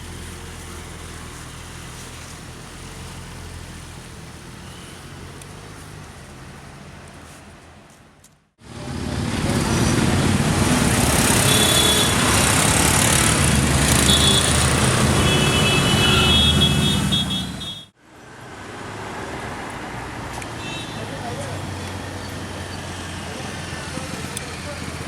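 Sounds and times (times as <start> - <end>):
loud car engine: 0.0 - 7.0, 8.6 - 25.0
traffic noise: 0.0 - 25.0.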